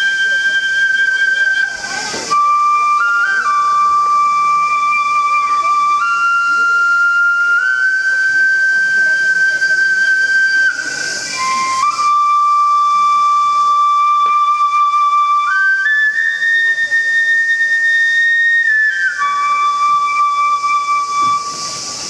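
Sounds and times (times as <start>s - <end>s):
bamboo flute long notes: 0.0s - 22.0s.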